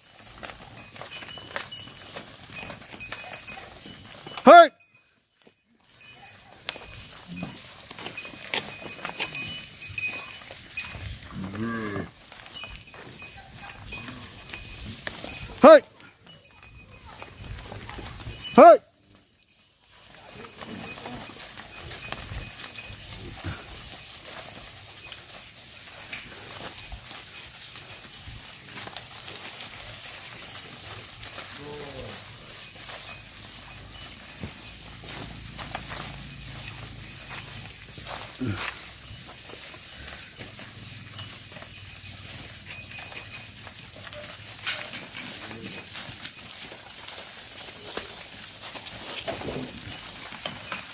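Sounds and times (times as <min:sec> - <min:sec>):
cattle shuffling and rustling: 0:00.0 - 0:50.9
hooves knocking on ground: 0:00.0 - 0:50.9.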